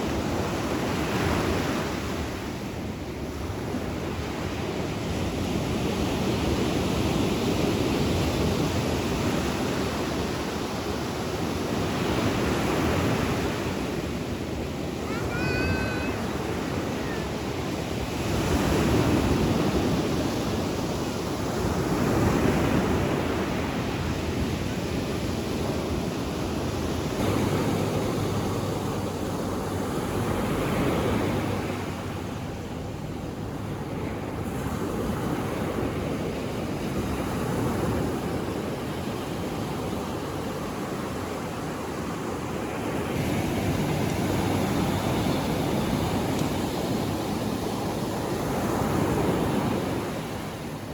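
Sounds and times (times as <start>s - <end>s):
ocean surf breaking: 0.0s - 50.9s
wind: 0.0s - 50.9s.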